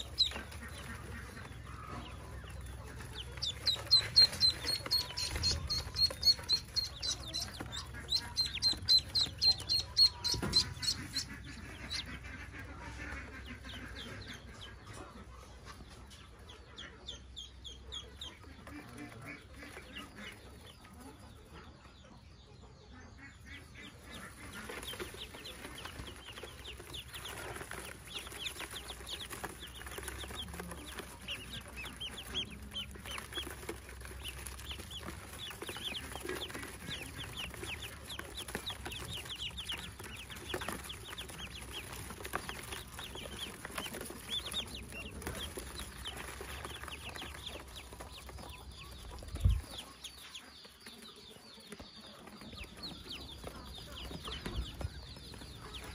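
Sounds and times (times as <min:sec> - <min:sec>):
ducklings peeping: 0:00.0 - 0:55.9.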